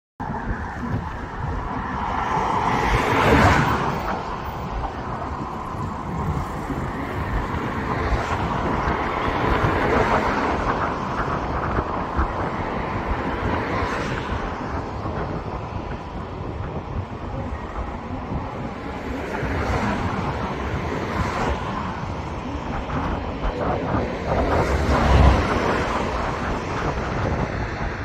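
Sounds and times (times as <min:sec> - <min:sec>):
city traffic hum: 0:00.2 - 0:28.0
wind buffeting microphone: 0:00.2 - 0:28.0.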